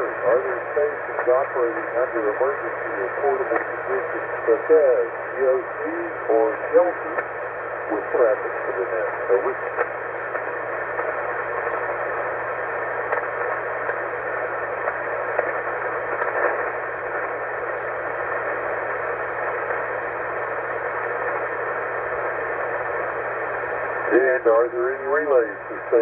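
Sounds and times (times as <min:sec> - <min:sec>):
faint crackles: 0:00.0 - 0:26.0
faint low hum: 0:00.0 - 0:26.0
radio static hiss: 0:00.0 - 0:26.0.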